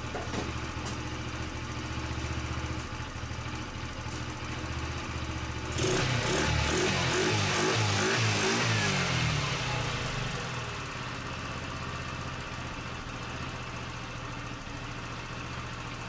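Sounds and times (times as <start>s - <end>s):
small scooter engine idling: 0.0s - 16.0s.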